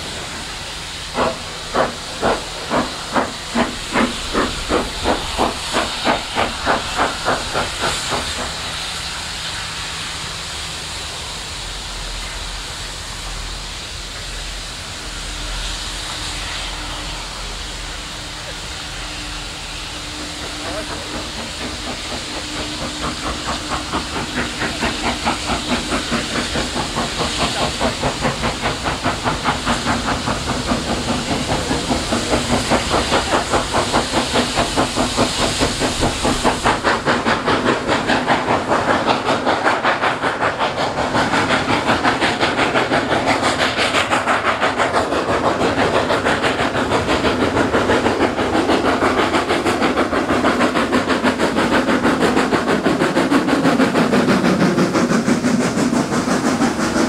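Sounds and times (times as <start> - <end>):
steam hissing: 0.0 - 57.0
steam locomotive exhaust beats: 0.0 - 57.0.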